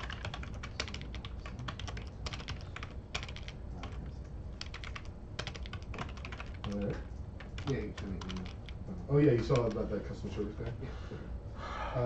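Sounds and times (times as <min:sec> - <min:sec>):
typing on computer keyboard: 0:00.0 - 0:09.9.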